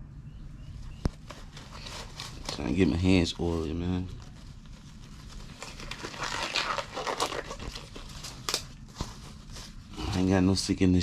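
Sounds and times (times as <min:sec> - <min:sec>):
gloves rustling: 0:00.6 - 0:10.8.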